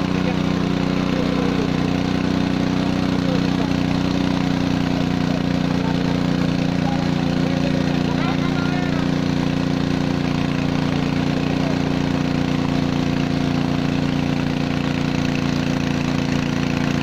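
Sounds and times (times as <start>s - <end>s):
petrol water pump engine running: 0.0s - 17.0s.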